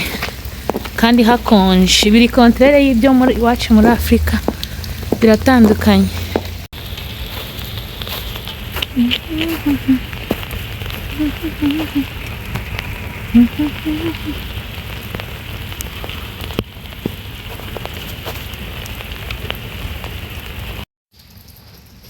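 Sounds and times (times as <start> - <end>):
precipitation pattering: 0.0 - 18.4.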